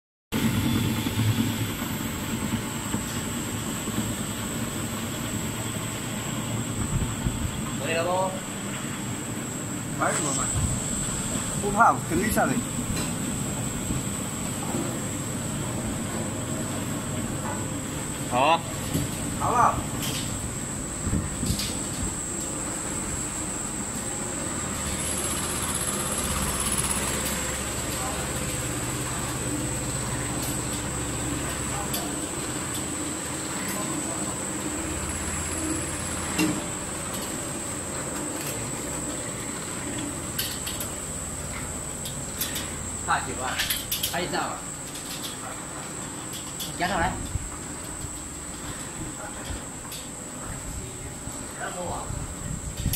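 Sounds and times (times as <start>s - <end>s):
machinery humming: 0.4s - 52.9s.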